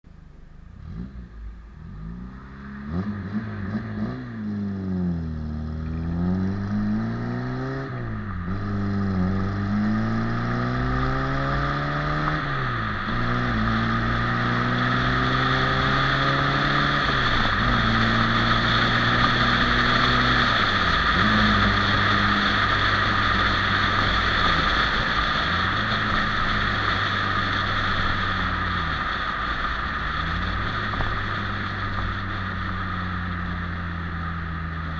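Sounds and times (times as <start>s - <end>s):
wind and tyre noise: 0.0s - 34.9s
car engine accelerating: 0.1s - 34.9s.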